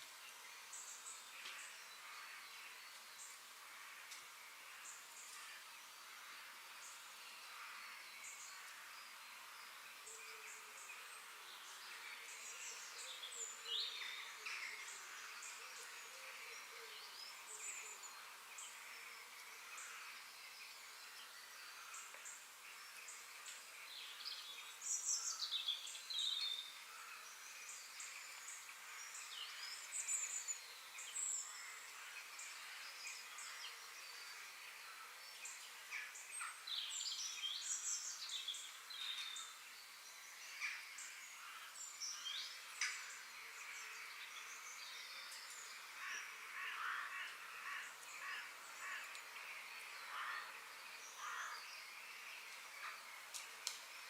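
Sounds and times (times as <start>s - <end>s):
songbirds chirping: 0.0s - 54.0s
steady high hiss: 0.0s - 54.0s.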